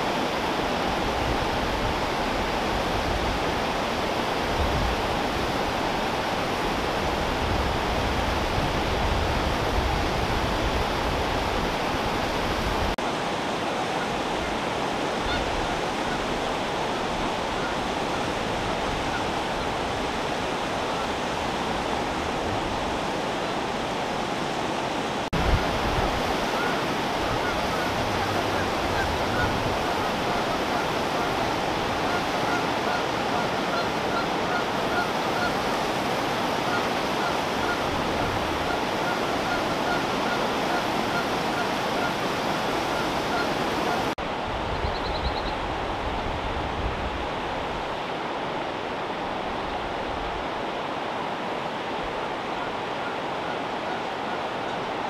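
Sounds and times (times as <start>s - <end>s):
water rushing over rapids: 0.0s - 44.8s, 45.6s - 55.0s.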